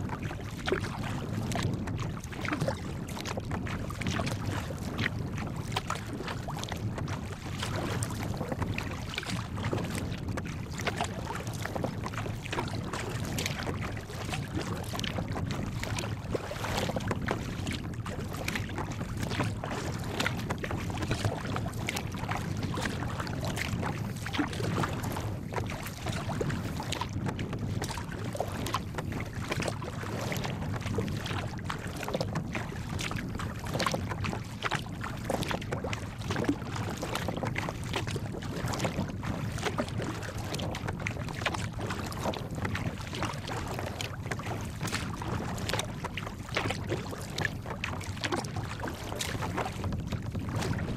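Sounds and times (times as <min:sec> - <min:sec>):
water slapping against kayak: 0:00.0 - 0:50.9
wind rumble on microphone: 0:00.0 - 0:50.9.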